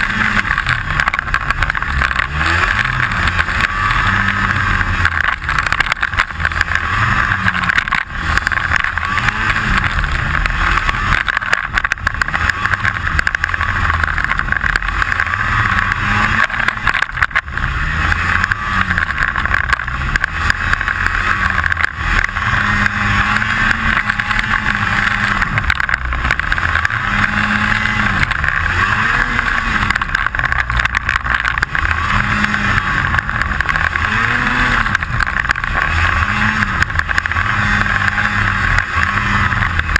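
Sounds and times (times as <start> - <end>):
rattle clicking: 0.0 - 39.9
snowmobile engine revving: 0.0 - 39.9.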